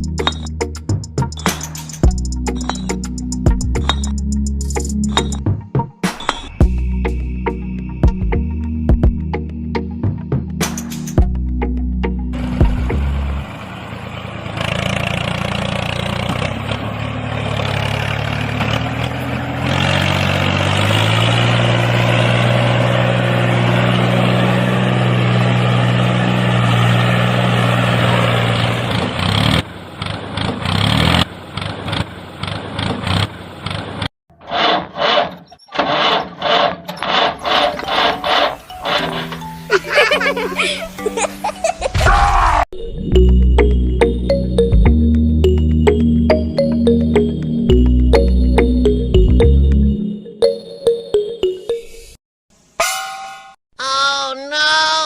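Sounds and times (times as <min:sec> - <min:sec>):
engine humming: 0:00.0 - 0:34.1, 0:35.0 - 0:41.8, 0:43.0 - 0:50.6.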